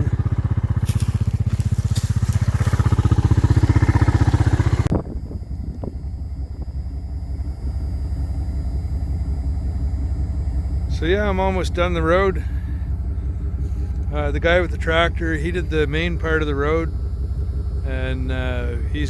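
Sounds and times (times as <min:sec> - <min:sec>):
tractor engine pulsing: 0:00.0 - 0:19.0
truck engine rumble from cab: 0:00.0 - 0:19.0.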